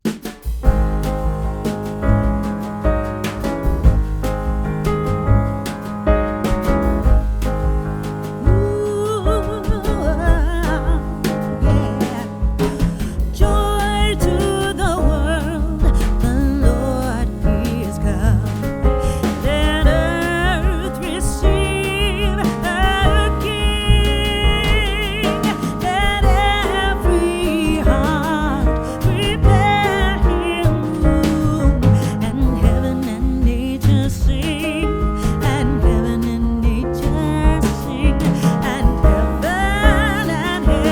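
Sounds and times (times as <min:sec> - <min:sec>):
bass and steady beat: 0:00.0 - 0:40.9.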